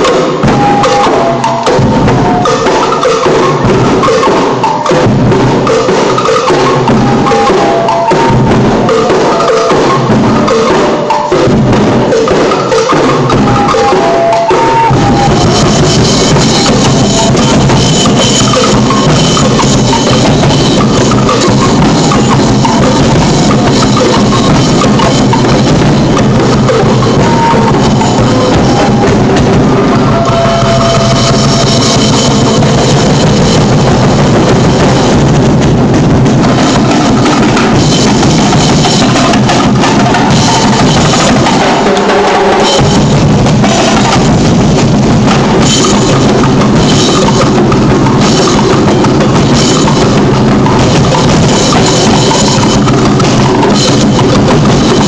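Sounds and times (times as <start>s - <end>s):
percussion band drums and cymbals: 0.0s - 55.0s.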